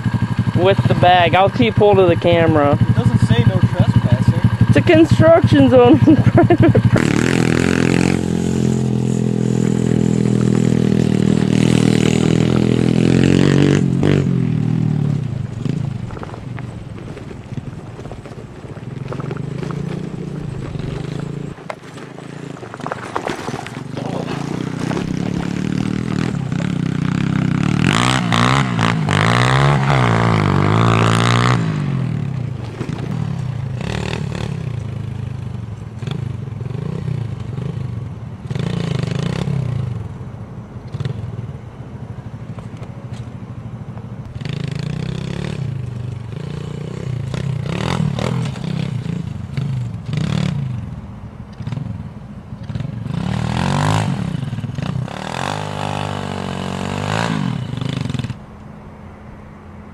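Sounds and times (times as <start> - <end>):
minibike engine revving: 0.0 - 40.1, 40.8 - 41.4, 44.2 - 58.7.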